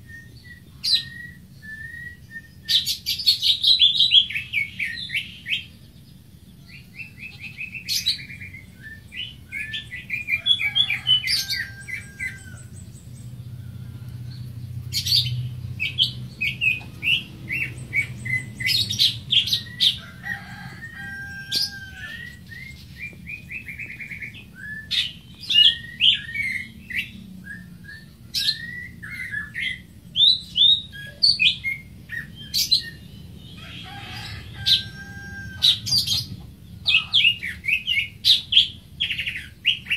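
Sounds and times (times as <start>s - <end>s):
faint low hum: 0.0s - 37.6s
bird singing chirps and trills: 0.0s - 39.9s.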